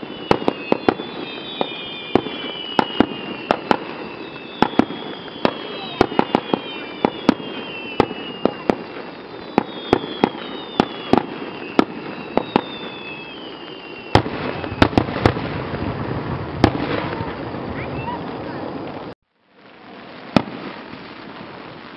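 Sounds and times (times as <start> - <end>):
loud firework bang: 0.0 - 18.2
fireworks whistles falling: 0.0 - 19.2
fireworks cracking: 0.0 - 21.9.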